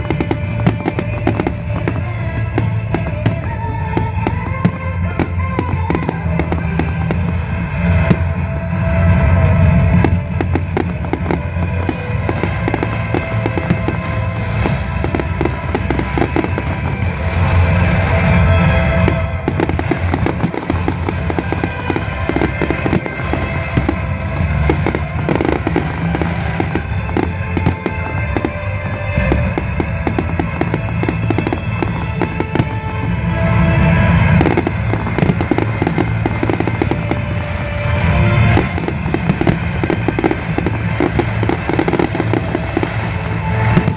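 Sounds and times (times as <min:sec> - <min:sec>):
fireworks bangs and crackling: 0:00.0 - 0:43.9
music playing: 0:00.0 - 0:43.9.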